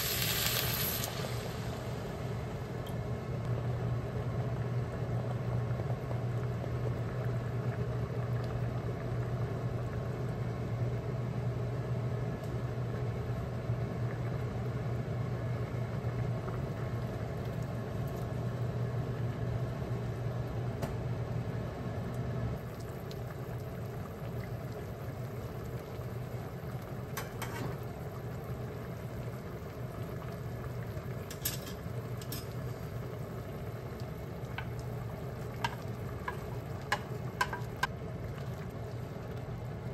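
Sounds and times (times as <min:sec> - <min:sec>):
broth simmering and bubbling: 0:00.0 - 0:39.9.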